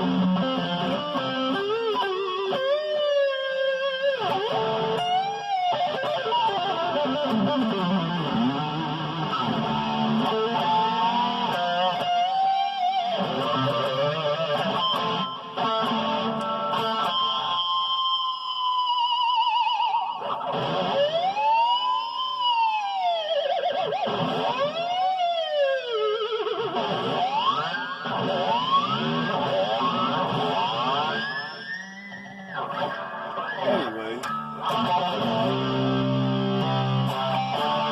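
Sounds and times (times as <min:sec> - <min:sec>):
electric guitar playing: 0:00.0 - 0:37.9.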